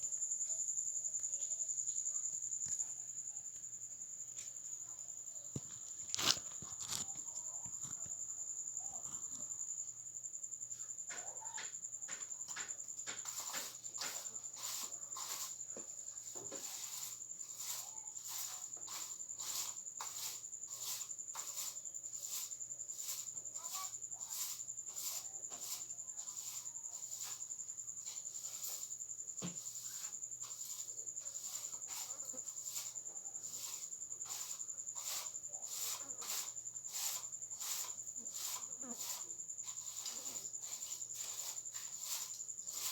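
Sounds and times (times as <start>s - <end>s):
crickets trilling: 0.0s - 42.9s
pulsing cricket chirp: 0.0s - 42.9s.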